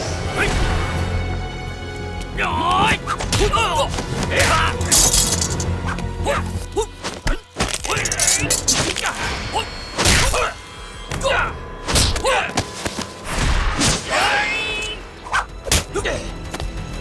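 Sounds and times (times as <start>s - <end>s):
fighters shouting and grunting: 0.0s - 1.1s, 2.3s - 12.8s, 13.8s - 16.4s
background music: 0.0s - 17.0s.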